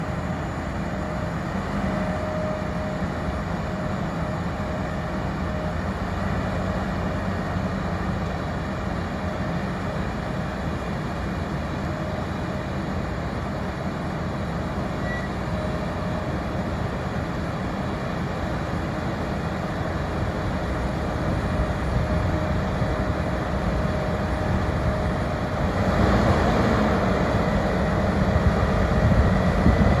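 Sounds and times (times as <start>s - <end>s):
faint steady machine whine: 0.0s - 30.0s
harvester and tractor running: 0.0s - 30.0s.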